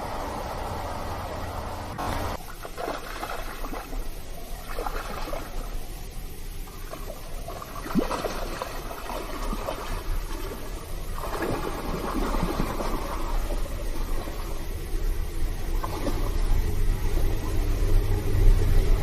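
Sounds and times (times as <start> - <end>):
steady rushing noise: 0.0 - 19.0
water trickling and gurgling: 0.0 - 19.0.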